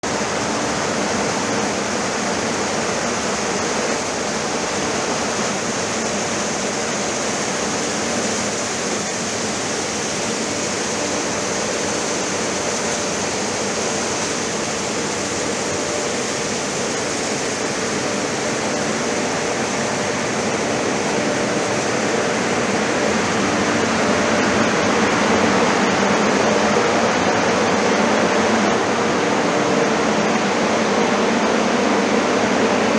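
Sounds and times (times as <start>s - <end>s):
grain dryer rushing: 0.0s - 32.9s.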